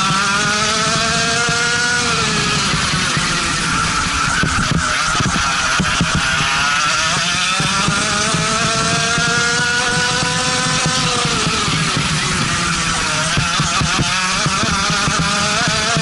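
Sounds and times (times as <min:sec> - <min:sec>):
go-kart engine accelerating: 0:00.0 - 0:16.0.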